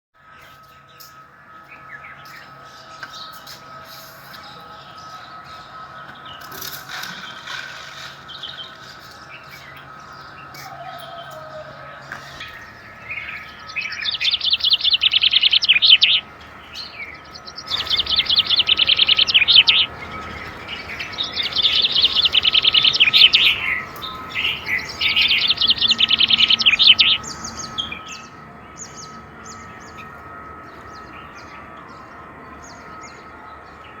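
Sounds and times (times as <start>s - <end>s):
faint steady background tone: 0.2s - 34.0s
songbird singing: 0.4s - 34.0s.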